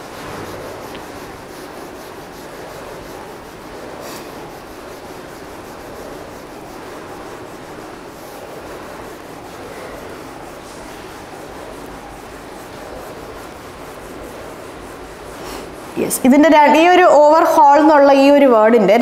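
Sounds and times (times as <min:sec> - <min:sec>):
duster rubbing on a whiteboard: 0:00.0 - 0:18.5.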